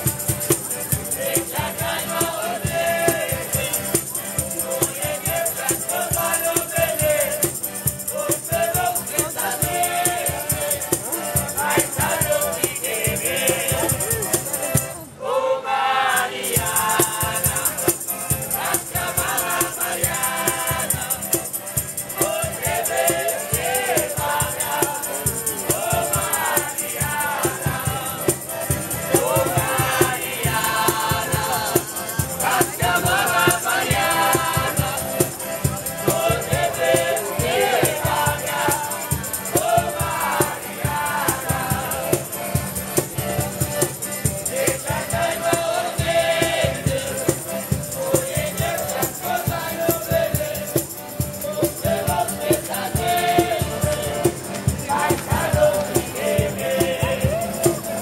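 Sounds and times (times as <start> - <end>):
acoustic guitars strumming: 0.0 - 15.1, 16.2 - 58.0
accordion: 0.0 - 58.0
voices singing together: 0.0 - 58.0.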